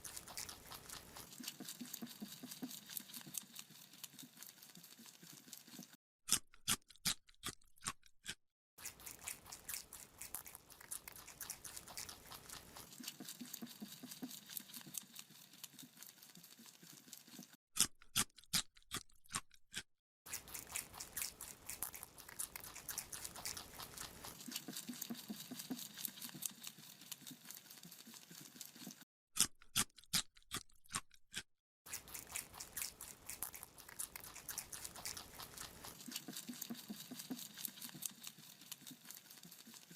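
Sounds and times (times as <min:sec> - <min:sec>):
rabbit crunching carrot: 0:00.0 - 0:39.9.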